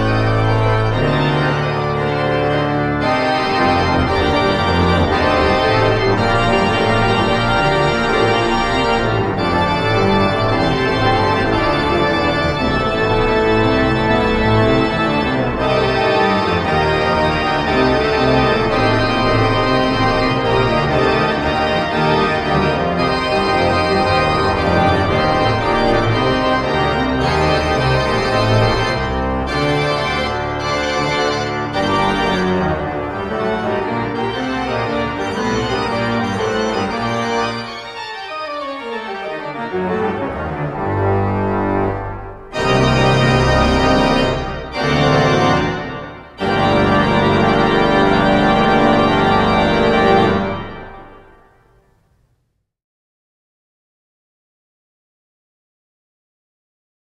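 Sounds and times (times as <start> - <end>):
pipe organ playing chords: 0.0 - 51.8.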